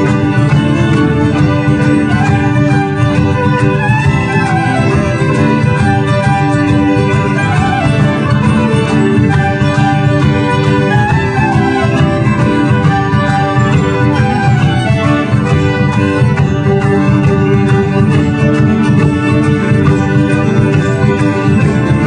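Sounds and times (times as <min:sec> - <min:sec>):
folk band playing dance tune: 0:00.0 - 0:22.0.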